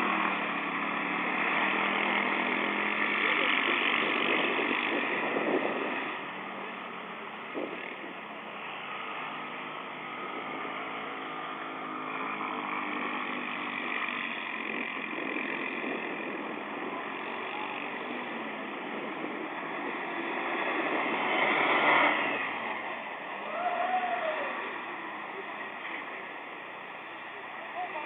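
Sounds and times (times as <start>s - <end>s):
dune buggy engines running: 0.0s - 28.0s.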